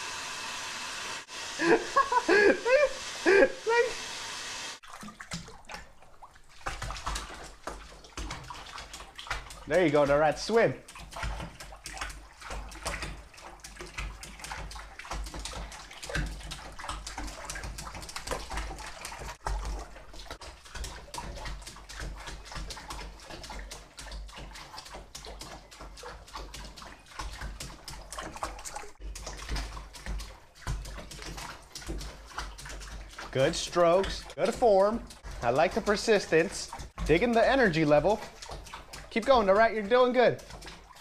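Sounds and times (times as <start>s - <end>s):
bathtub water splashing: 0.9s - 41.0s.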